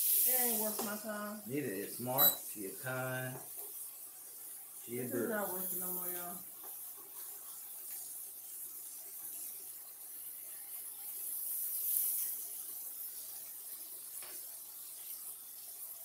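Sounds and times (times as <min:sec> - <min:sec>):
scallops sizzling in hot oil: 0:00.0 - 0:16.0.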